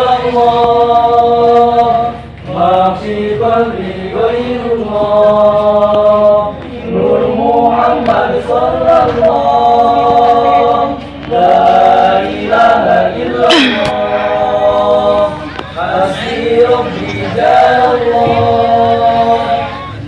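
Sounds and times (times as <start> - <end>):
men singing in unison: 0.0 - 20.0.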